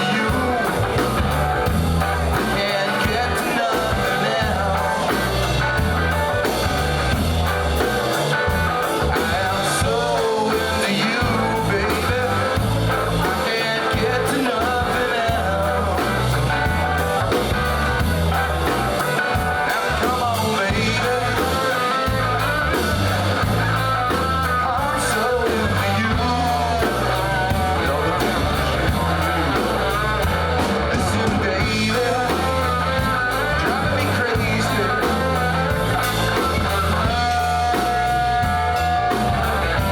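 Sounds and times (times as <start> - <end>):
rock song from a radio: 0.0 - 39.9.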